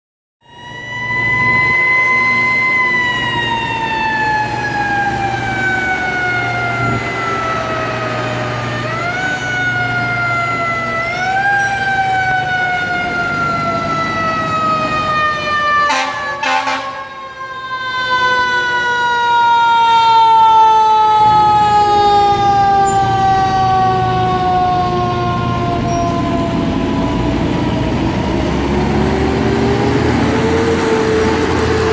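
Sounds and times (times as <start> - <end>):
fire engine siren wailing: 0.4 - 31.9.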